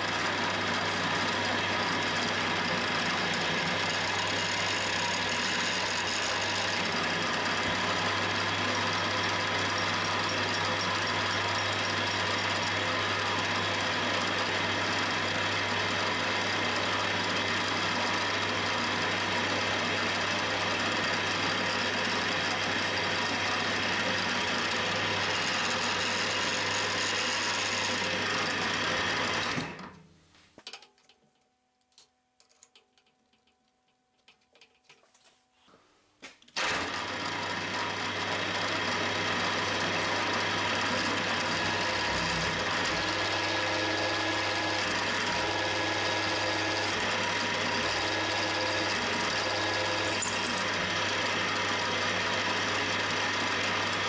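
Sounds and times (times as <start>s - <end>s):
milling machine cutting metal: 0.0s - 29.8s, 36.6s - 54.0s.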